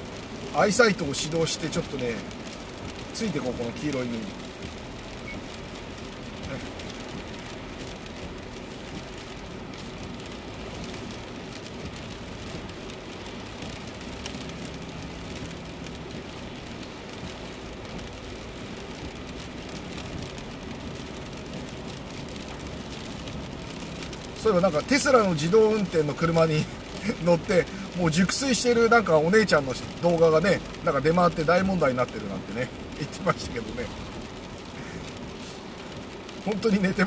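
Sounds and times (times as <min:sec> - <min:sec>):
rain on windshield: 0:00.0 - 0:37.0
tyres on wet road: 0:00.0 - 0:37.0.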